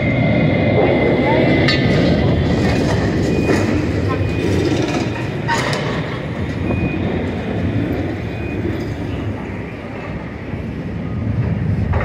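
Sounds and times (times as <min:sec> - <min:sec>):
excavator diesel engine rumble: 0:00.0 - 0:12.0.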